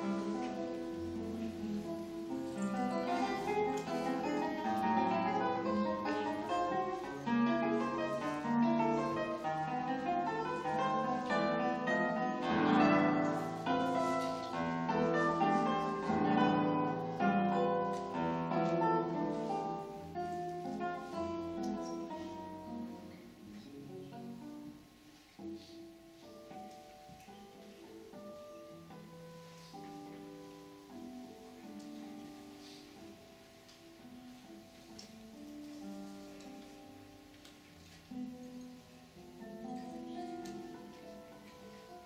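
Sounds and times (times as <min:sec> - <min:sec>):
fingerpicked classical guitar: 0:00.0 - 0:42.0.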